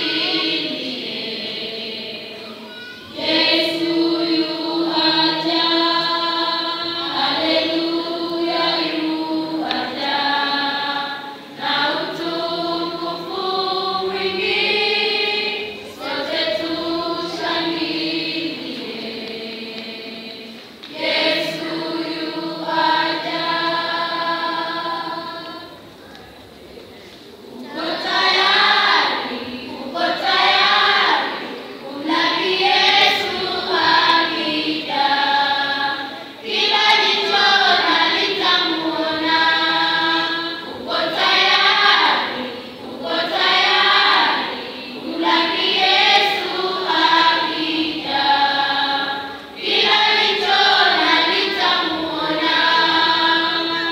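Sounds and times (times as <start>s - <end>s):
choir singing unaccompanied: 0.0s - 53.9s.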